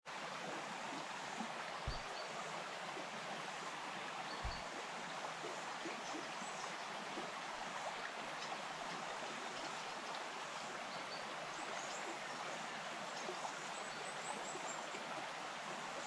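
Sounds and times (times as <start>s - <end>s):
stream water rushing: 0.1s - 16.0s.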